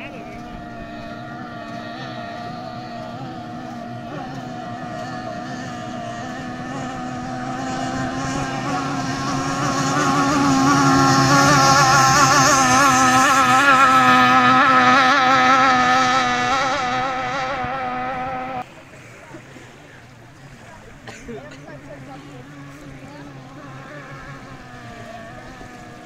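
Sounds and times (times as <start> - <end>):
outboard motor running flat out: 0.0 - 26.0
shore ambience: 0.0 - 26.0.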